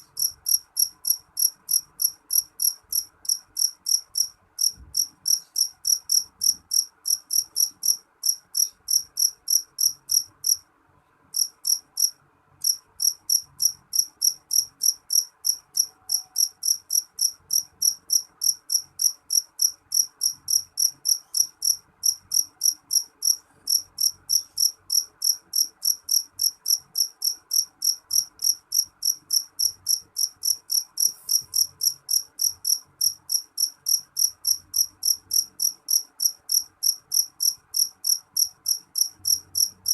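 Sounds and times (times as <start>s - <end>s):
cricket chirping: 0.0s - 10.6s, 11.4s - 39.9s
faint background hiss: 0.0s - 39.9s.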